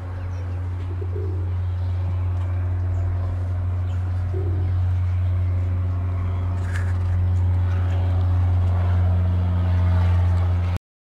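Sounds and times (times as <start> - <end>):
mechanical motor hum: 0.0 - 10.8.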